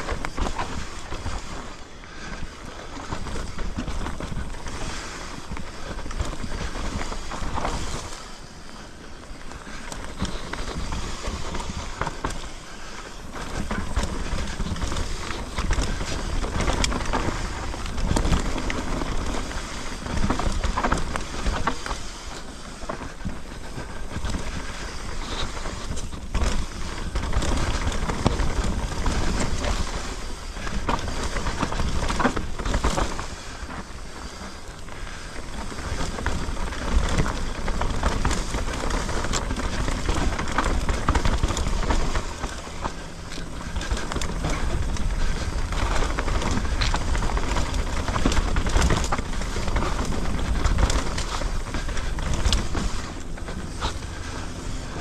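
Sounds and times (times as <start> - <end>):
bike knocking and rattling: 0.0 - 55.0
bike tyres rolling on dirt: 0.0 - 55.0.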